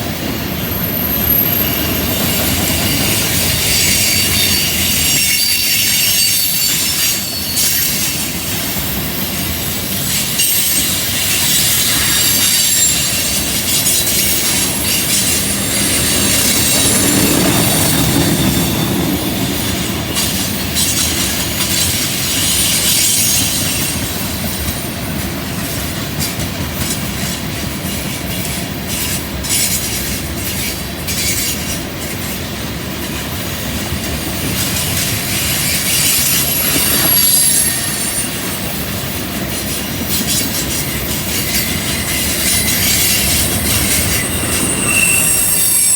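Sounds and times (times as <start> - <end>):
train wheels squealing on rail: 0.0 - 45.9
wheels clicking over rail joints: 1.4 - 45.6.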